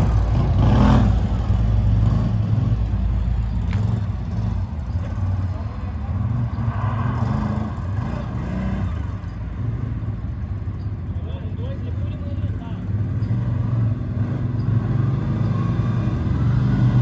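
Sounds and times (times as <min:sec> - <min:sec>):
quad engine rumbling: 0:00.0 - 0:17.0.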